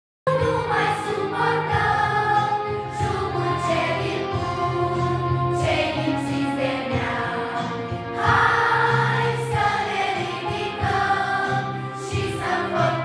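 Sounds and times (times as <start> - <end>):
choir singing long notes: 0.3 - 13.0.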